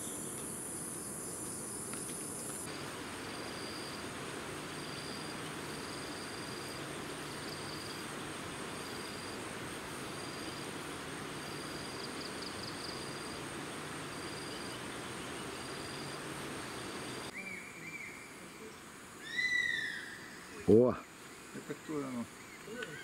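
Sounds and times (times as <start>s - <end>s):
insect buzz: 0.0s - 23.0s
insects trilling: 0.0s - 23.0s.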